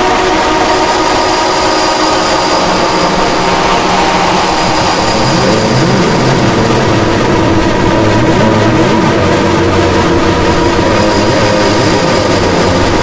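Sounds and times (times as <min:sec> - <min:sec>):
bending synth bass: 0:00.0 - 0:13.0
sustained synthesizer chord: 0:00.0 - 0:13.0.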